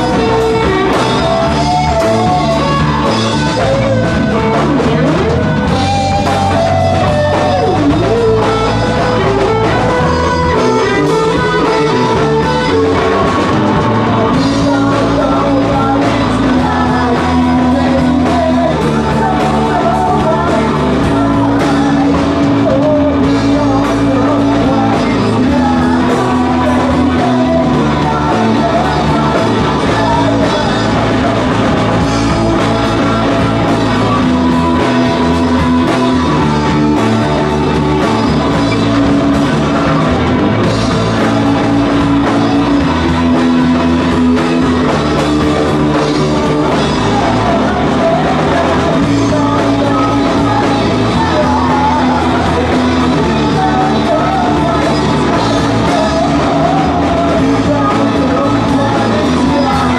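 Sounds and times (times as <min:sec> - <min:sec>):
drum kit: 0:00.0 - 0:59.9
electric guitar: 0:00.0 - 0:59.9
person singing into microphone: 0:00.0 - 0:59.9.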